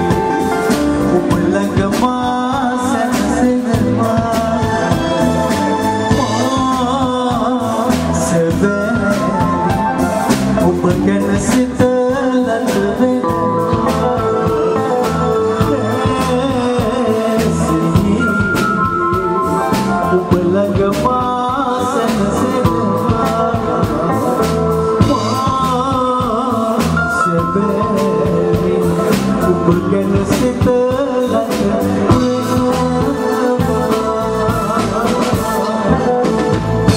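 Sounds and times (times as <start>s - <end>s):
song with singing over a band: 0.0s - 36.9s.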